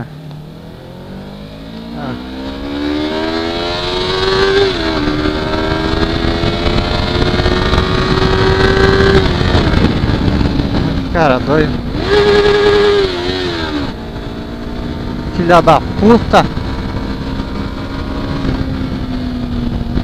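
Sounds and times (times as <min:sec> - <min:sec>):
motorcycle engine accelerating hard: 0:00.0 - 0:20.0.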